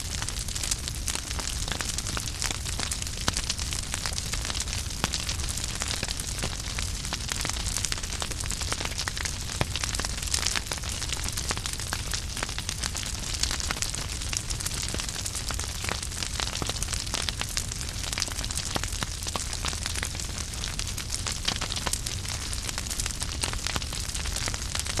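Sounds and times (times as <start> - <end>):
firewood crackling: 0.0 - 25.0.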